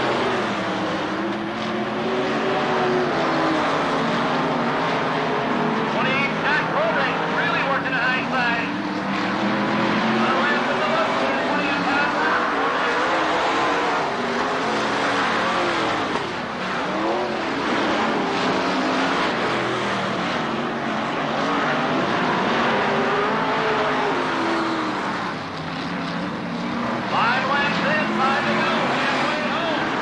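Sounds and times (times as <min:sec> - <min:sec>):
race car engines running hard: 0:00.0 - 0:30.0.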